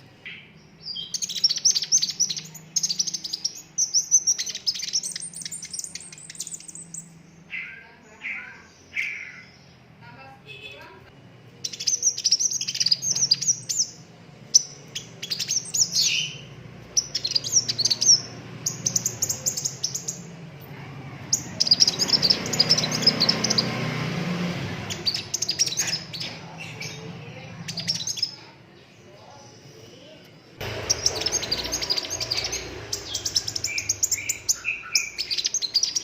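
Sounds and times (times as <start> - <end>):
bird twittering chirps and trills: 0.0 - 10.7, 11.5 - 30.0, 30.6 - 36.0.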